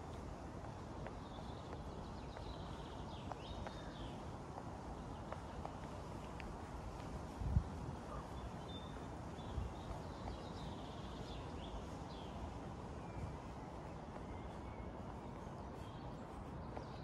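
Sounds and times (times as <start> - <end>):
faint birdsong: 0.7 - 6.6, 7.7 - 17.0.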